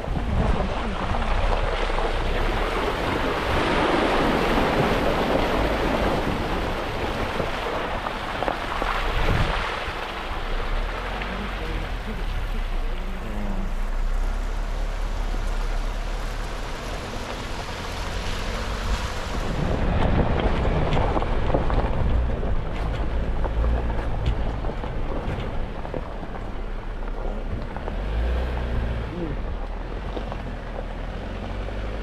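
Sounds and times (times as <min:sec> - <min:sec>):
wind buffeting microphone: 0:00.0 - 0:13.0, 0:15.0 - 0:32.0
vehicle engine and tyres rumbling: 0:00.0 - 0:32.0.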